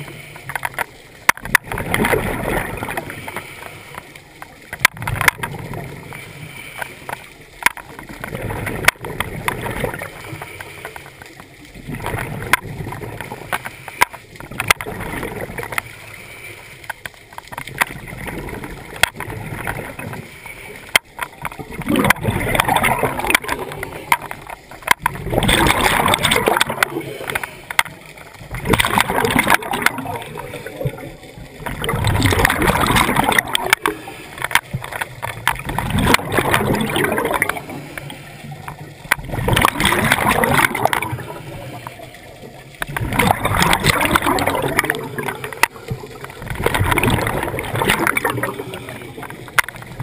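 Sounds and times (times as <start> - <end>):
underwater exhaled bubbles: 0.0 - 50.0.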